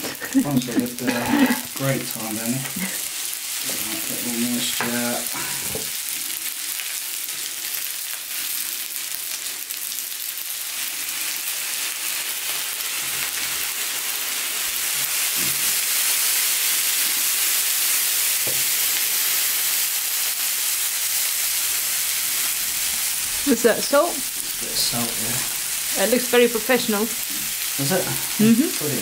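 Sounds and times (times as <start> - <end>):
rice sizzling on a hot plate: 0.0 - 29.0
sauce poured onto sizzling rice: 0.1 - 29.0.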